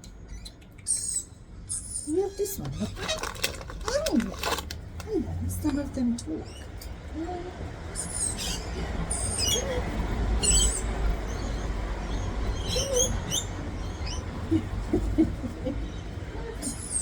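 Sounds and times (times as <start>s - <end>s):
low steady rumble: 0.0s - 17.0s
parrots chirping: 0.2s - 4.6s, 5.7s - 7.1s, 7.9s - 17.0s.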